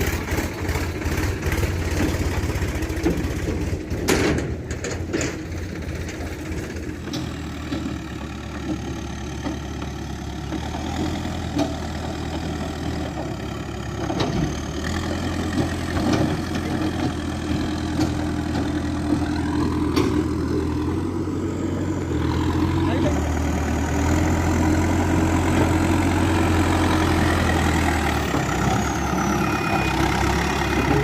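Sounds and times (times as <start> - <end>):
heavy machinery diesel engine: 0.0 - 31.0.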